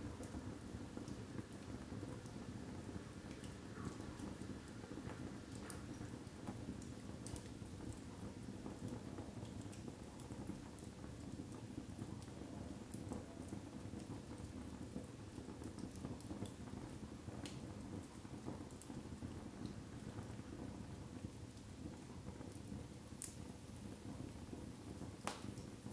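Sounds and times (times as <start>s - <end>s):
fire crackling and popping: 0.0s - 25.9s
low rush of flames: 0.0s - 25.9s.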